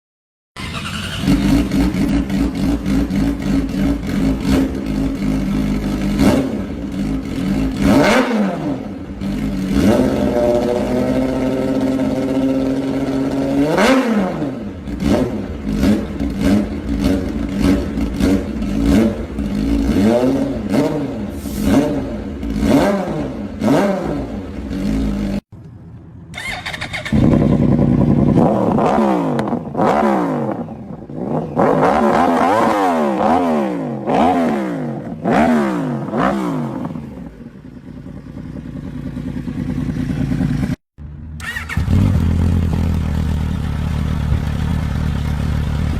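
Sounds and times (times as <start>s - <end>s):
motorcycle engine revving: 0.6s - 25.5s, 26.3s - 45.9s.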